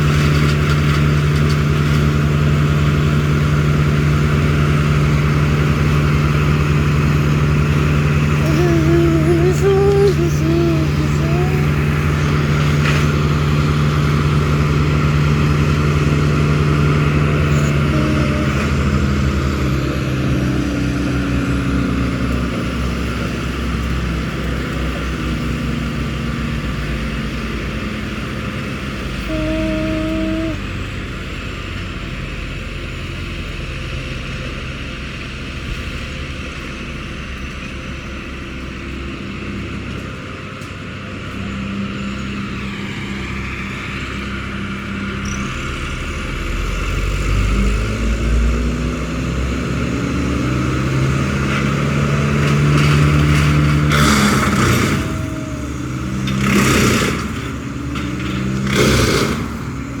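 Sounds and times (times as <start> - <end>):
engine revving: 0.0 - 31.0, 41.6 - 60.0.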